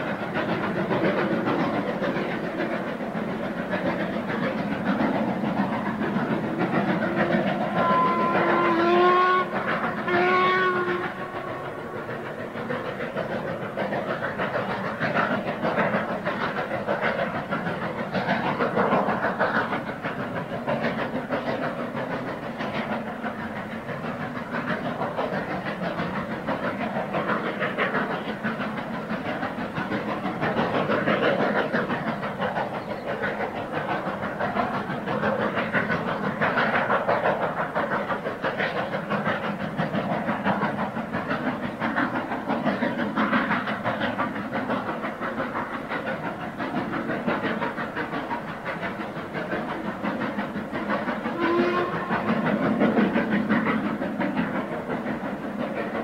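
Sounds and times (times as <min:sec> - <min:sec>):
steam locomotives chuffing: 0:00.0 - 0:56.0.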